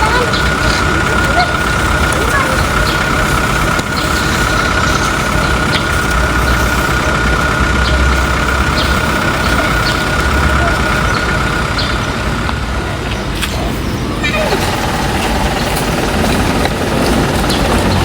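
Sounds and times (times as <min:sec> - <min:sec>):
engine running with high whine: 0:00.0 - 0:18.0.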